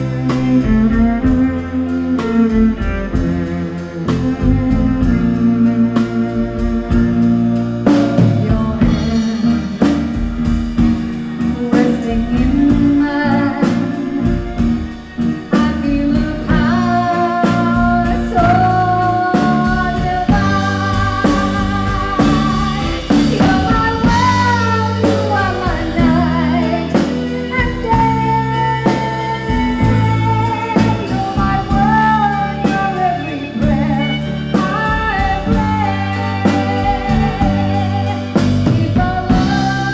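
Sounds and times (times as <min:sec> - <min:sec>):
live band playing: 0:00.0 - 0:39.9
woman singing: 0:00.0 - 0:39.9.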